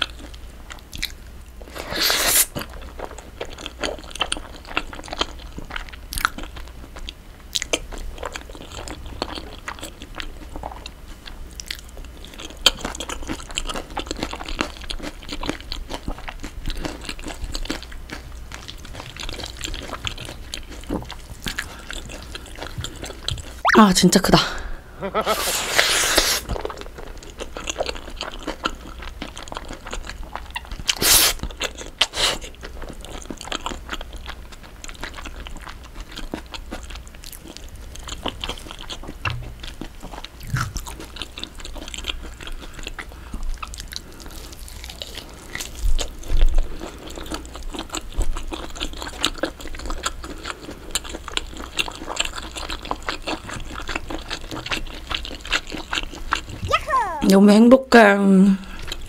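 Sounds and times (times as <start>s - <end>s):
close chewing with wet smacks: 0.0s - 1.7s, 2.5s - 23.8s, 26.4s - 57.4s, 58.0s - 59.0s.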